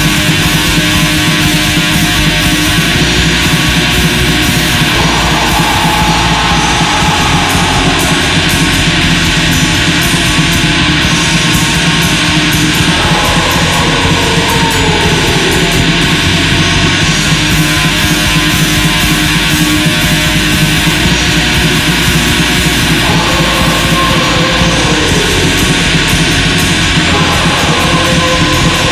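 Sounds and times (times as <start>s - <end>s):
distorted electric guitars: 0.0s - 28.9s
drums: 0.0s - 28.9s.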